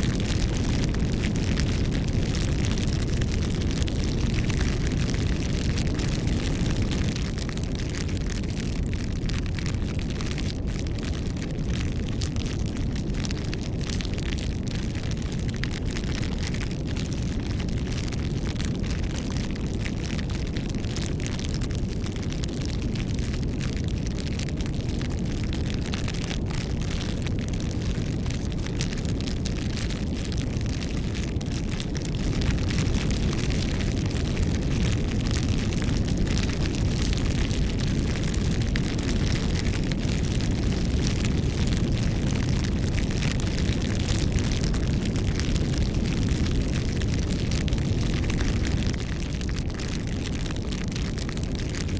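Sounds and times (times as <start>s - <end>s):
burning wood crackling: 0.0s - 51.9s
fire roaring: 0.0s - 51.9s.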